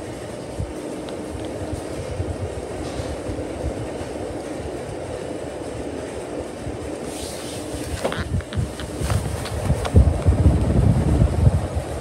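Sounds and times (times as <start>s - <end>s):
ceiling fan drone: 0.0s - 12.0s
low rumbling: 0.0s - 12.0s.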